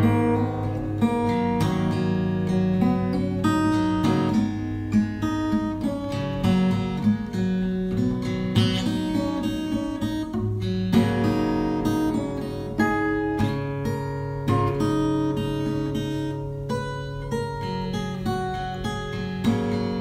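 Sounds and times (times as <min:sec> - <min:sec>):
acoustic guitar strummed: 0:00.0 - 0:20.0.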